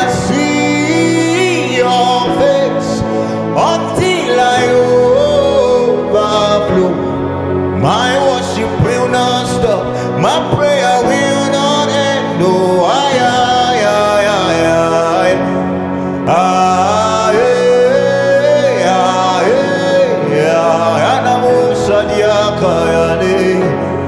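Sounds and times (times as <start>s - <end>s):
electronic keyboard chords: 0.0s - 24.0s
man singing gospel: 0.0s - 24.0s.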